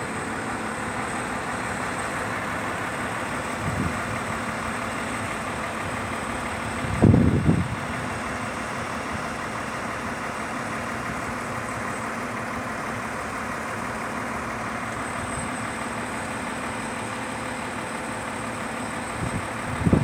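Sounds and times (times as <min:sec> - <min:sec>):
crane engine running: 0:00.0 - 0:20.0.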